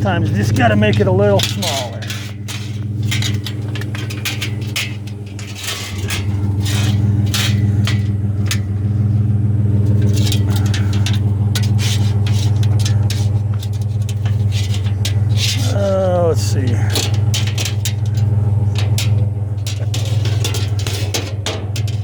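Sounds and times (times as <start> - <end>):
scrap metal clanking and rattling: 0.0 - 22.0
vehicle engine idling: 0.0 - 22.0.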